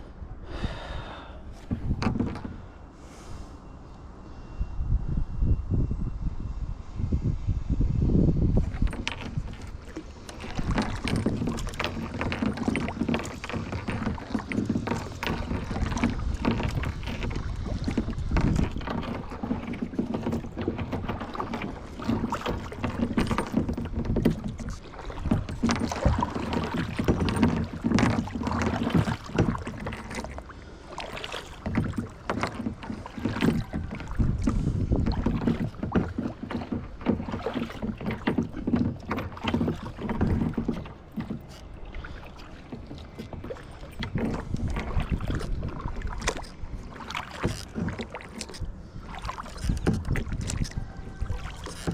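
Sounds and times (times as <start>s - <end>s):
water sloshing against hull: 0.0s - 4.8s, 8.3s - 51.9s
kayak paddles splashing in water: 1.5s - 3.6s, 8.5s - 51.9s.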